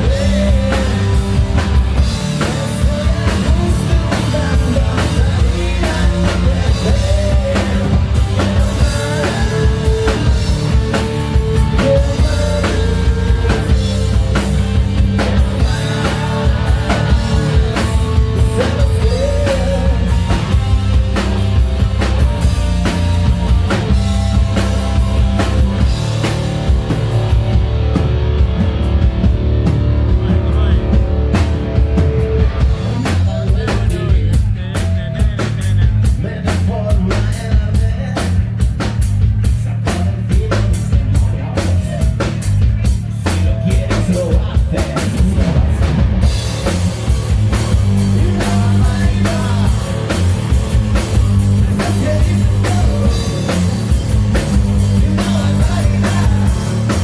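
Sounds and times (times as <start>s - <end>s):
drums steady beat: 0.0s - 57.0s
hard rock band playing live: 0.0s - 57.0s.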